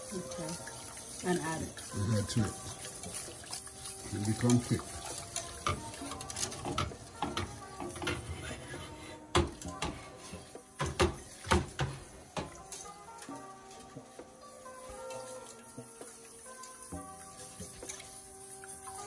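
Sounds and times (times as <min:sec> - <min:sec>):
faint background music: 0:00.0 - 0:19.0
whisk clinking and scraping pot: 0:00.0 - 0:19.0.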